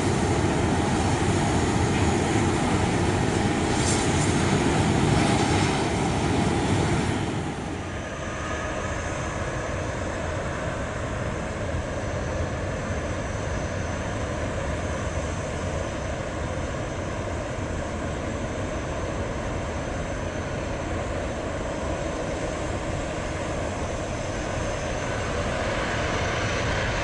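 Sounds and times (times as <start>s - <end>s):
faint high jet whine: 0.0s - 27.0s
jet engines rumbling: 0.0s - 27.0s.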